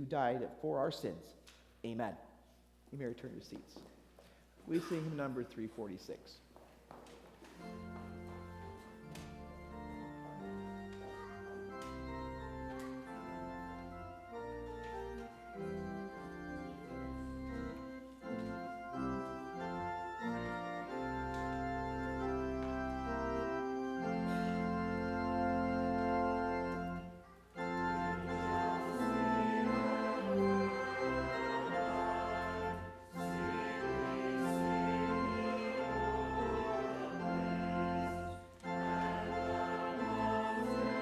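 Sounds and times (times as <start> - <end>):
organ playing a hymn: 7.4 - 41.0.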